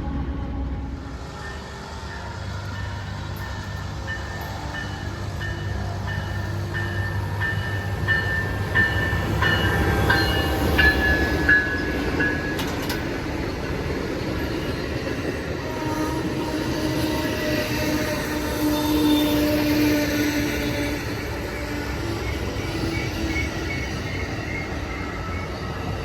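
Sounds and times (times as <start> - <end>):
train rumbling past: 0.0 - 26.0
crossing bell ringing: 1.3 - 26.0.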